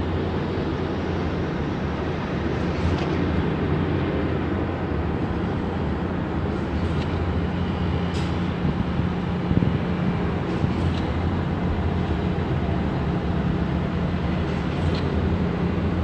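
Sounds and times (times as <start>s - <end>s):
city noise rumble: 0.0s - 16.0s.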